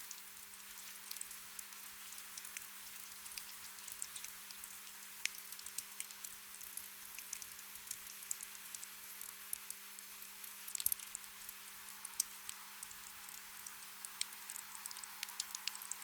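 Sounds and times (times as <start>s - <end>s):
raindrops pattering: 0.0s - 16.0s
soft rain hiss: 0.0s - 16.0s.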